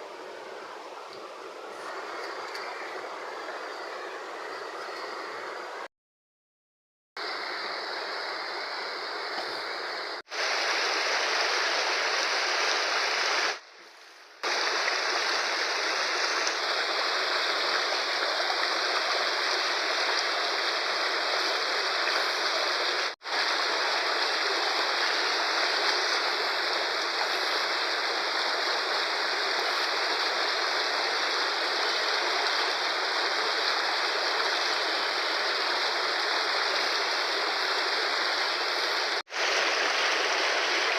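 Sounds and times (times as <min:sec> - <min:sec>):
fast-flowing river rushing: 0:07.2 - 0:13.6, 0:14.4 - 0:40.9.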